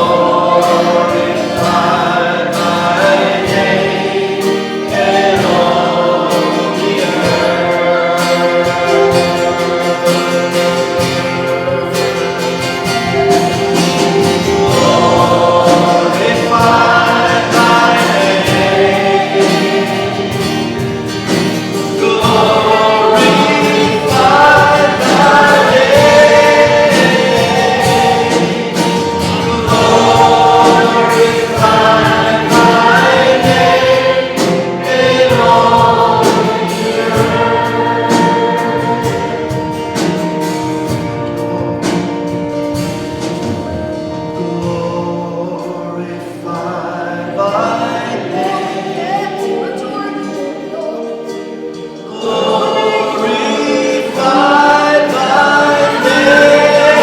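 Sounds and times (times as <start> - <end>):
group singing a worship song: 0.0 - 57.0
instrumental accompaniment: 0.0 - 57.0.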